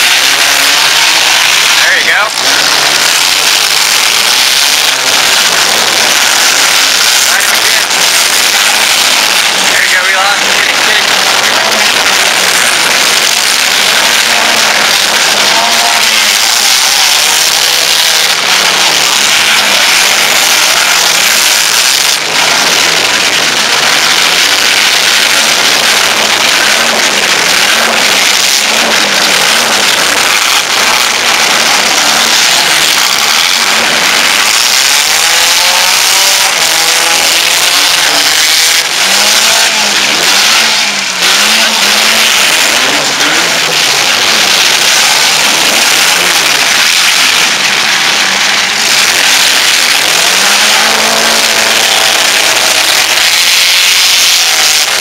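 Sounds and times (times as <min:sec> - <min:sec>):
car engines revving hard: 0:00.0 - 0:55.0
wheels spinning in dirt: 0:00.0 - 0:55.0.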